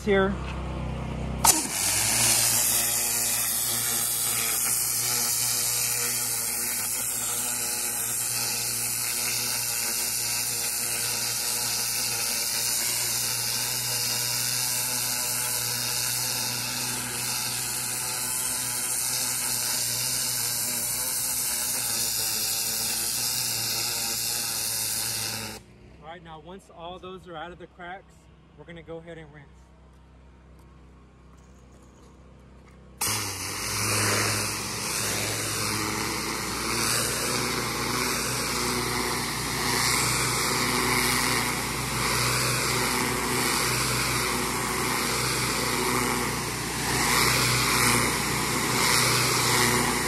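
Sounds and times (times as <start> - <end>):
pressure washer humming: 0.0 - 26.0, 32.9 - 50.0
high-pressure water jet hissing: 1.4 - 25.6, 33.0 - 50.0.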